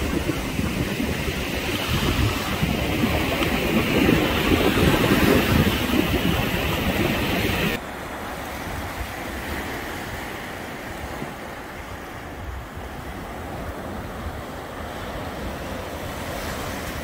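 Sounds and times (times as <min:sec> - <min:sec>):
surf washing up the beach: 0:00.0 - 0:17.0
wind on microphone: 0:00.0 - 0:17.0.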